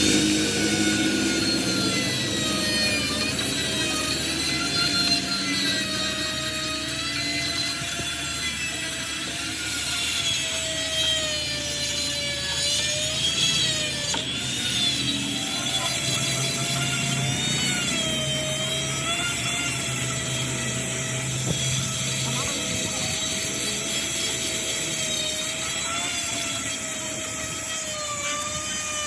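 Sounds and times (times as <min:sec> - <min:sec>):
low machine hum: 0:00.0 - 0:28.7
metal lathe whine: 0:00.0 - 0:29.0.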